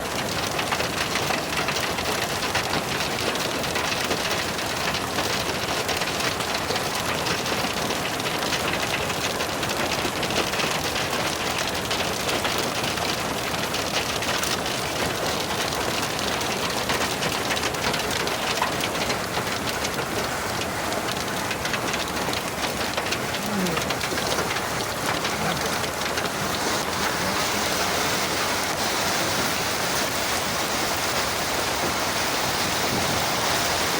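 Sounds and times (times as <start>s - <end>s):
rain pattering: 0.0s - 33.9s.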